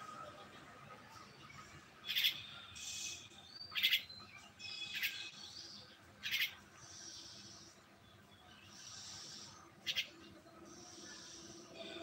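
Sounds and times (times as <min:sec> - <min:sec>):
birds giving harsh calls: 0:02.0 - 0:12.0.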